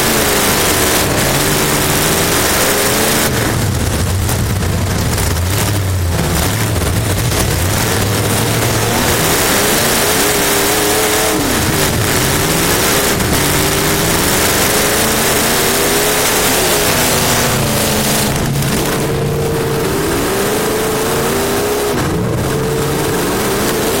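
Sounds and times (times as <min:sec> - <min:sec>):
race car engine revving: 0:00.0 - 0:24.0
wind and road noise: 0:00.0 - 0:24.0.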